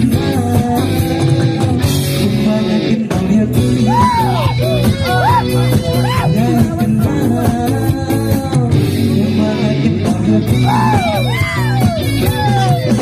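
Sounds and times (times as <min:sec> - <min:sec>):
live rock band playing: 0:00.0 - 0:13.0
man singing into a microphone: 0:00.0 - 0:13.0.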